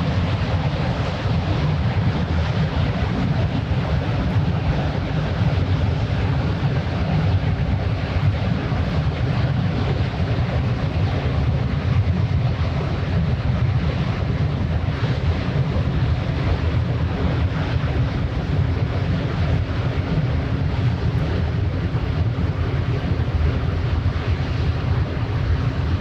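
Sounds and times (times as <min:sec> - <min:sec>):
ship engine drone: 0:00.0 - 0:26.0
wind buffeting microphone: 0:00.0 - 0:26.0.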